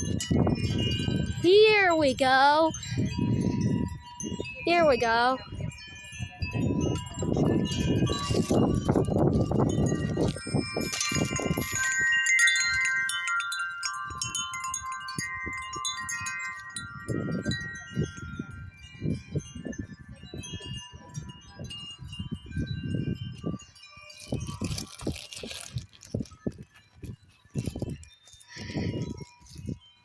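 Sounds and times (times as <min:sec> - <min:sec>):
wind gusts on microphone: 0:00.0 - 0:13.1, 0:14.1 - 0:29.9
wind chime ringing: 0:00.0 - 0:30.0.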